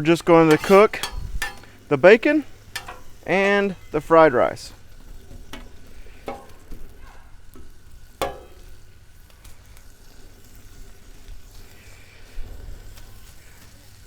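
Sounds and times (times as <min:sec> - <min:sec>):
food sizzling on a griddle: 0:00.0 - 0:14.0.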